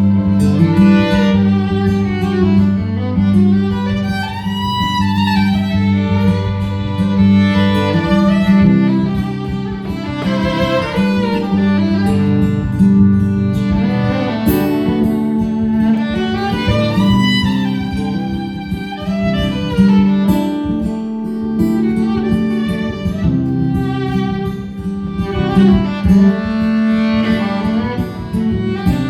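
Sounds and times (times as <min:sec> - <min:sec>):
fiddle playing sliding lead: 0:00.0 - 0:29.0
guitar accompaniment: 0:00.0 - 0:29.0.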